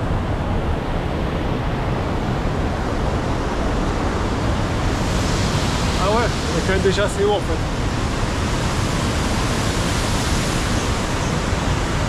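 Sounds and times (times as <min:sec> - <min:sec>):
water rushing from dam: 0:00.0 - 0:12.0.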